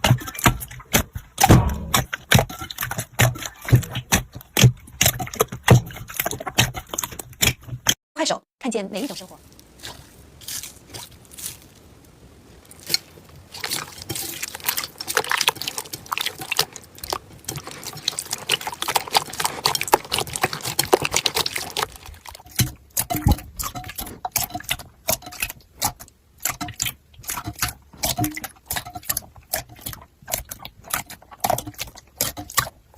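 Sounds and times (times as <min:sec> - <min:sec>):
slime squelching and popping: 0:00.0 - 0:07.9, 0:12.7 - 0:32.8.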